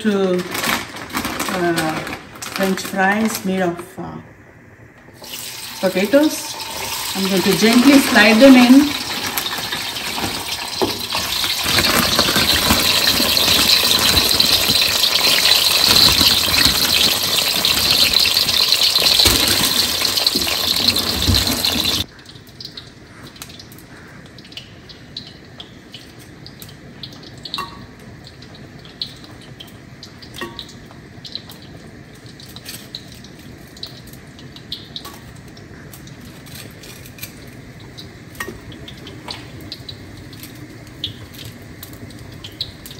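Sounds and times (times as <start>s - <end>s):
food sizzling in frying oil: 5.1s - 42.9s.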